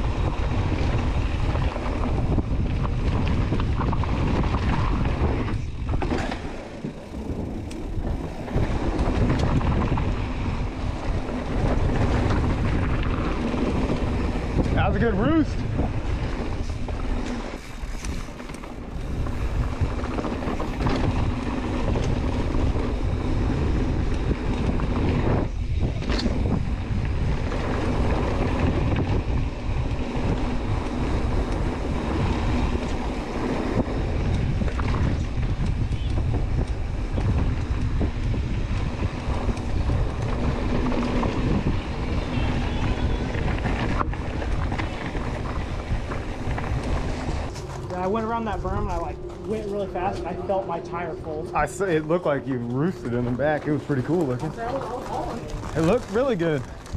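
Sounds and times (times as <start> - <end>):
bike tyres rumbling on dirt: 0.0 - 56.9
wind buffeting microphone: 0.0 - 56.9.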